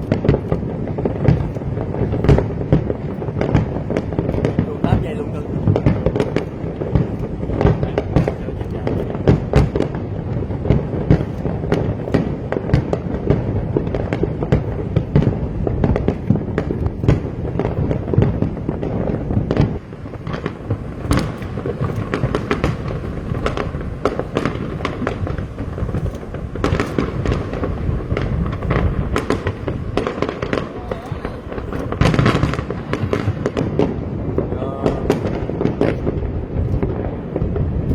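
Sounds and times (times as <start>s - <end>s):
fireworks bangs and crackles: 0.0s - 37.9s
low rumble: 0.0s - 37.9s.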